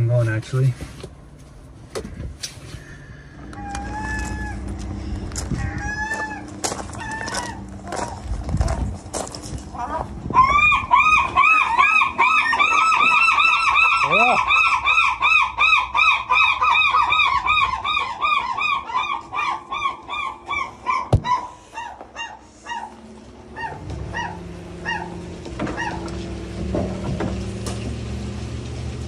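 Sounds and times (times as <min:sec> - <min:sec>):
gull calling: 0:02.0 - 0:08.8, 0:09.7 - 0:26.3.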